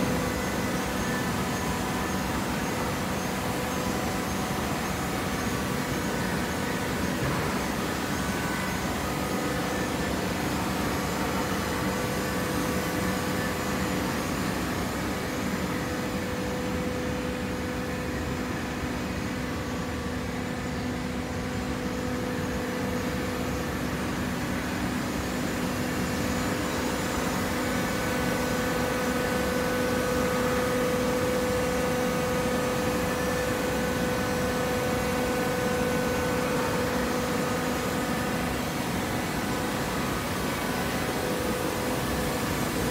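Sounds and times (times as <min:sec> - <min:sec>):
baling press machine hum: 0:00.0 - 0:42.9.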